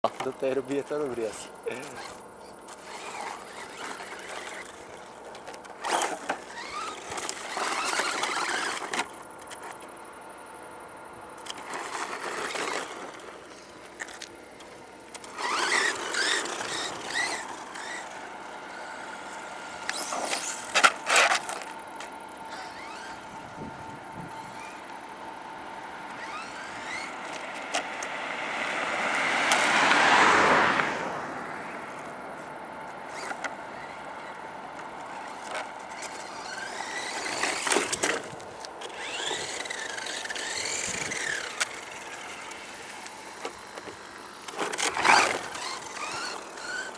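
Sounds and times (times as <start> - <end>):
electric motor whining: 0.1 - 9.9, 11.4 - 30.4, 33.0 - 46.9.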